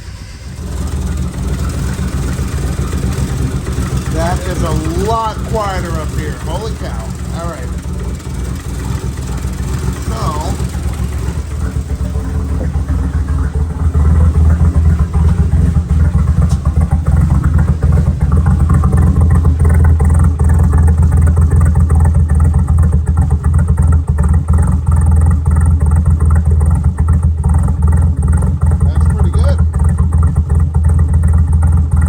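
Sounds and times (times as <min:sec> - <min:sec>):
car engine deep exhaust note: 0:00.0 - 0:32.0.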